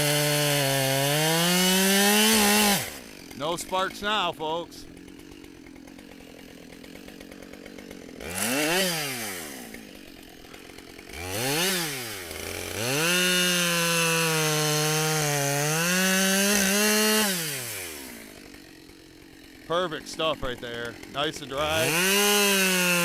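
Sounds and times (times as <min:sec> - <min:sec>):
chainsaw revving and cutting wood: 0:00.0 - 0:23.0.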